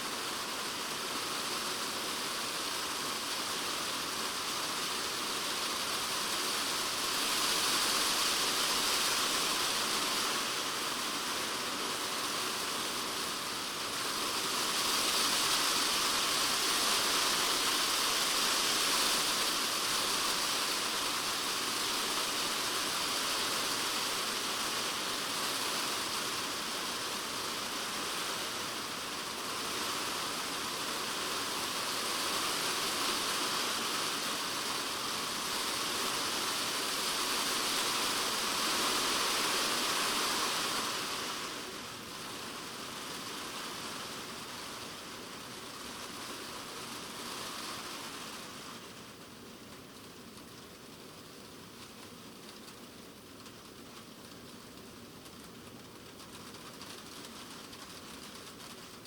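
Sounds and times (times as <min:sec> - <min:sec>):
rain on a plastic roof: 0:00.0 - 0:59.0.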